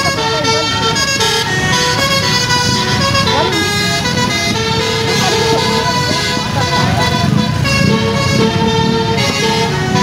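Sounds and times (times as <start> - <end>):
multi-tone bus horn tune: 0.0 - 10.0
traffic rumble: 0.0 - 10.0.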